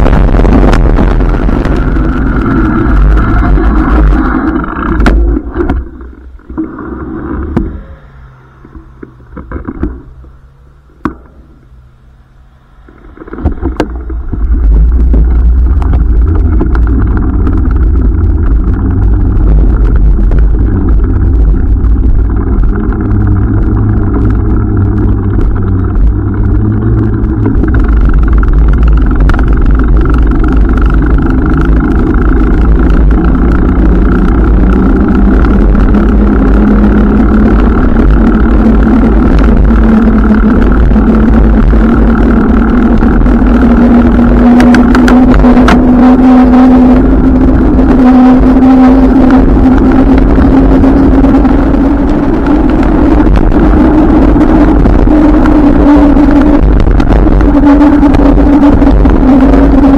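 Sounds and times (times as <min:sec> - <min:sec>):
wind buffeting microphone: 0:00.0 - 0:10.3, 0:12.8 - 0:59.9
bicycle road rumble: 0:00.0 - 0:59.9
faint steady hum: 0:00.0 - 0:59.9.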